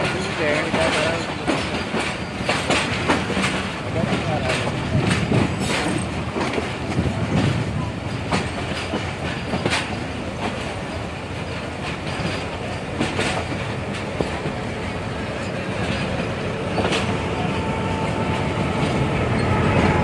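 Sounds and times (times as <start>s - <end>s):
wheels clicking over rail joints: 0.0s - 17.4s
train wheels rumbling on track: 0.0s - 20.0s.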